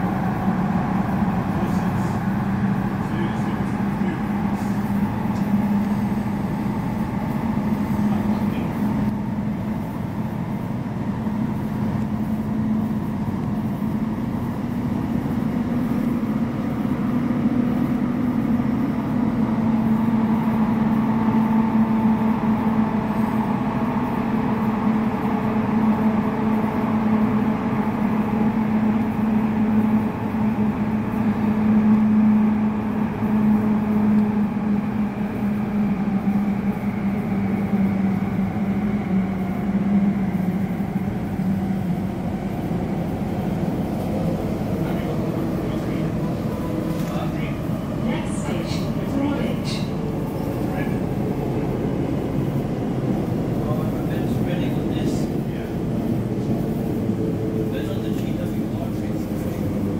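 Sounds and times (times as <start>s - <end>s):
electric train cabin rumble: 0.0s - 59.9s.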